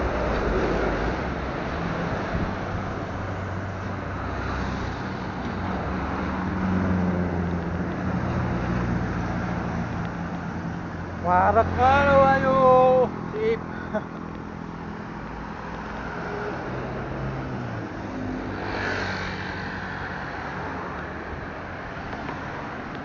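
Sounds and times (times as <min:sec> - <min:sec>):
vehicle engines passing: 0:00.0 - 0:23.0.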